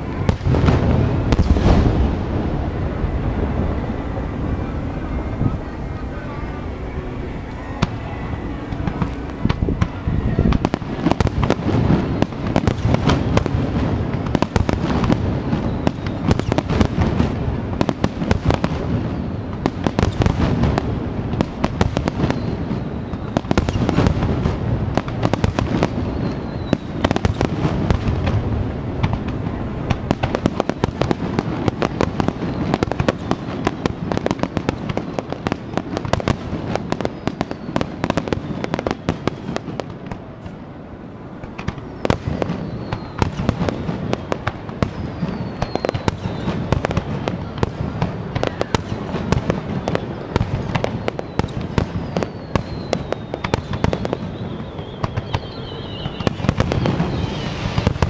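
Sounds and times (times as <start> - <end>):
falling whistles: 0.0 - 13.6, 14.2 - 17.3, 21.7 - 24.5, 25.2 - 28.0, 30.3 - 39.8, 41.4 - 47.5, 48.3 - 58.0
fireworks crackling and popping: 0.0 - 58.0.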